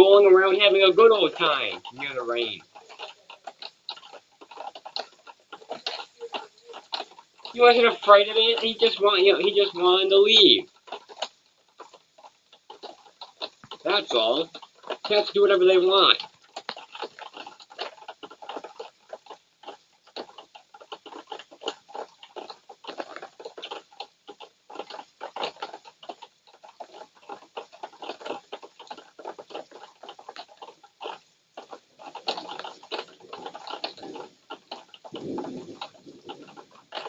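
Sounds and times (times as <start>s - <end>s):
raindrops pattering and dripping: 0.0s - 37.0s.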